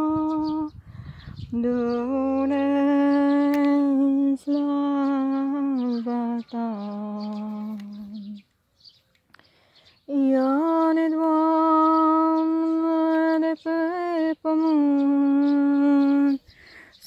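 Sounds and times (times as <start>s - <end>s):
woman humming a slow tune: 0.0s - 0.8s, 1.4s - 8.5s, 10.1s - 16.5s.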